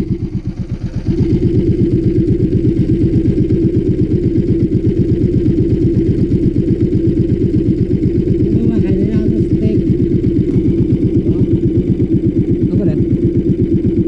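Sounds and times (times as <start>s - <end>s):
small boat engine running: 0.0s - 14.0s.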